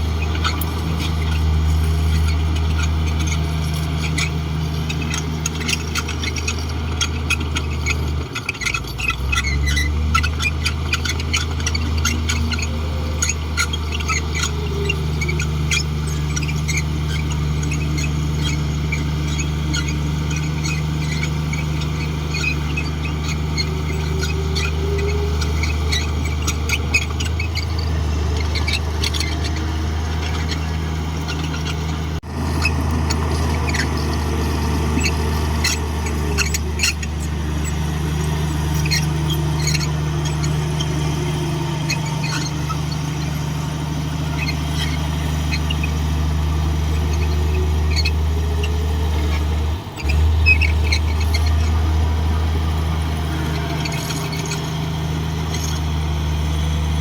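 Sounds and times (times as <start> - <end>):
bulldozer diesel engine running: 0.0 - 57.0
short high squeaks and clicks: 0.0 - 57.0.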